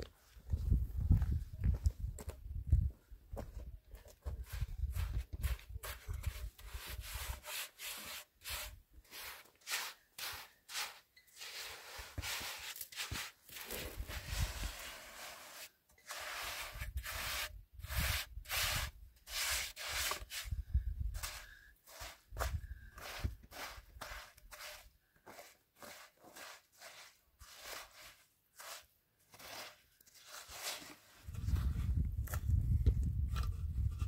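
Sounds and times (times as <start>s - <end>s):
trowel scraping cement on gritty ground: 4.1s - 34.0s.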